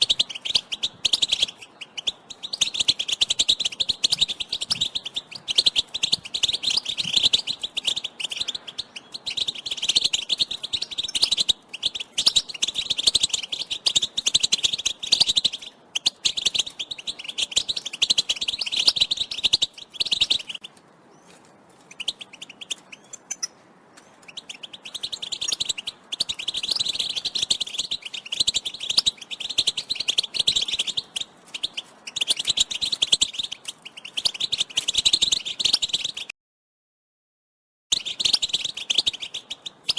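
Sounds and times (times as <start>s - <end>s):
goldfinch twittering: 0.0s - 21.3s, 24.2s - 36.3s.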